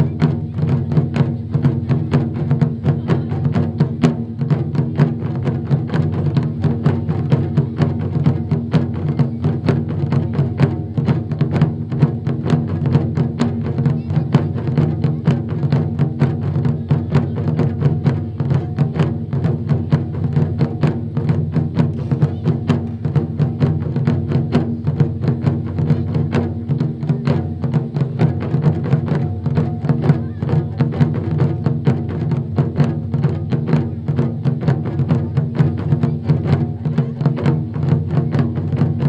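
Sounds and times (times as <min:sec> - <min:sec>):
taiko drums beating: 0:00.0 - 0:39.0.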